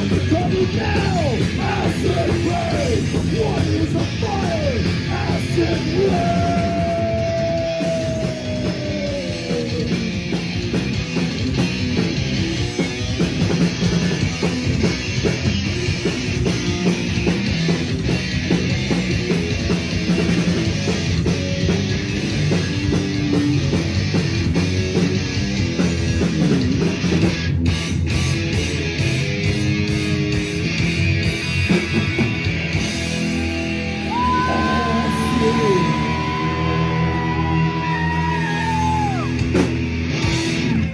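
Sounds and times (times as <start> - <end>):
bass guitar: 0.0 - 40.9
distorted electric guitars: 0.0 - 40.9
fast driving drums: 0.0 - 40.9.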